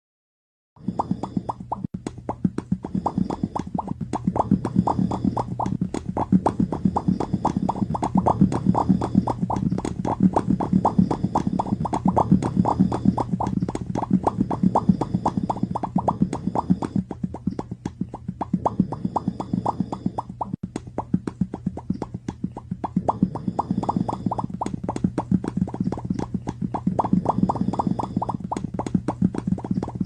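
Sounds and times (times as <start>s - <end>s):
steady low background tone: 0.8s - 30.0s.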